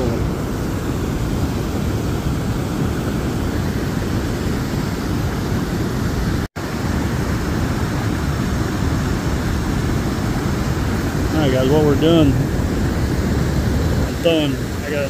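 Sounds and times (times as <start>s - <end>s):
river whitewater rushing: 0.0s - 15.0s.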